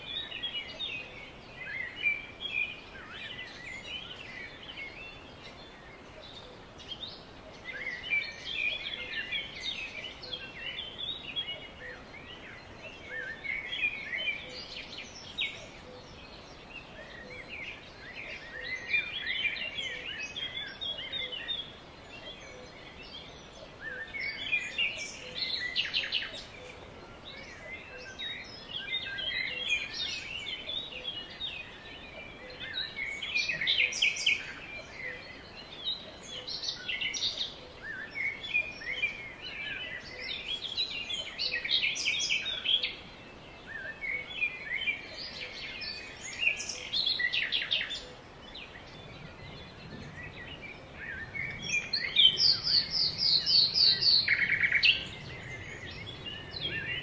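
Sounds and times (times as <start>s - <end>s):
outdoor background noise: 0.0s - 57.0s
songbirds chirping and trilling: 0.0s - 57.0s.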